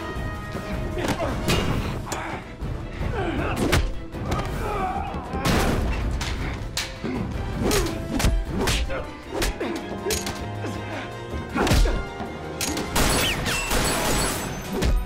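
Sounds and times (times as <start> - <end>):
tense music score: 0.0 - 15.0.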